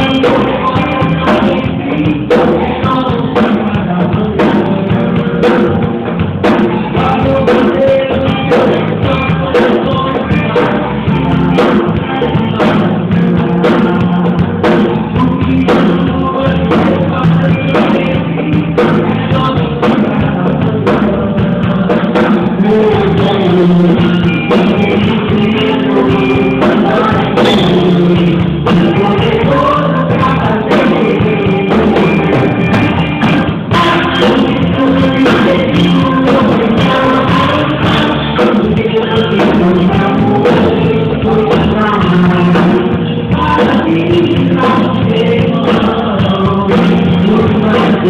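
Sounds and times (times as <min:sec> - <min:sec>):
band playing worship song: 0:00.0 - 0:48.0
person singing: 0:00.0 - 0:48.0
steady drum beat: 0:00.0 - 0:48.0.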